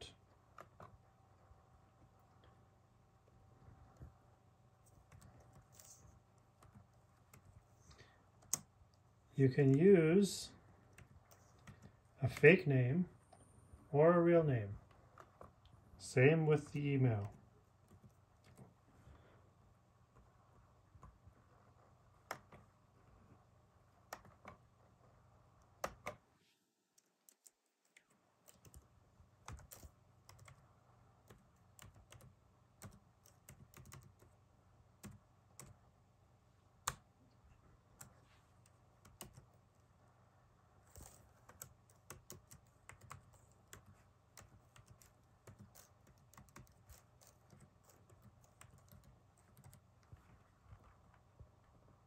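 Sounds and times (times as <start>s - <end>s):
faint keyboard typing: 0.0s - 19.3s, 20.0s - 26.2s, 26.9s - 35.9s, 36.7s - 40.1s, 40.7s - 52.0s.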